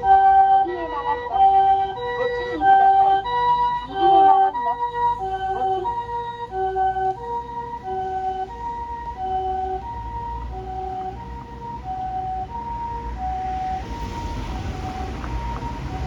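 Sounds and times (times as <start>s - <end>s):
low traffic rumble: 0.0s - 16.0s
two-tone ambulance siren: 0.0s - 16.0s
road noise hiss: 1.3s - 16.0s.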